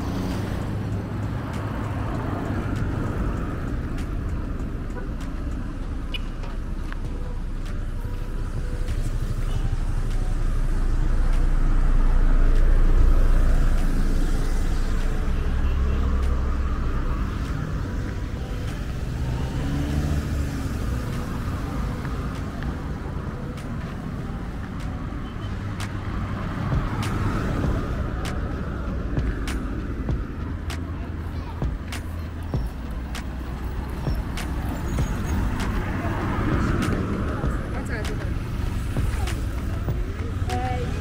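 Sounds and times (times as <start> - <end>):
motor vehicles passing: 0.0 - 41.0.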